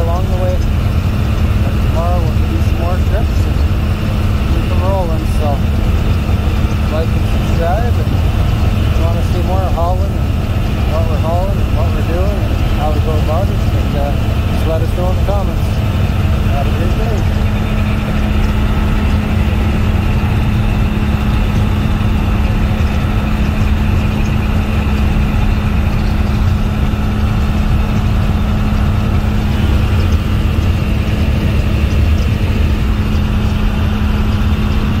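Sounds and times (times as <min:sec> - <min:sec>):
truck diesel engine cruising: 0:00.0 - 0:35.0.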